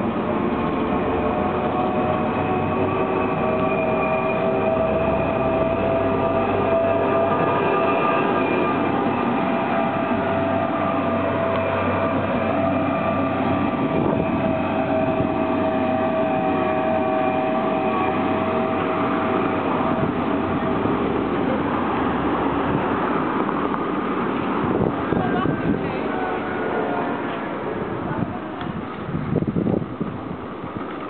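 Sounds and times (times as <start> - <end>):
heavy vehicle engine whine: 0.0 - 31.0
road traffic rumble: 0.0 - 31.0.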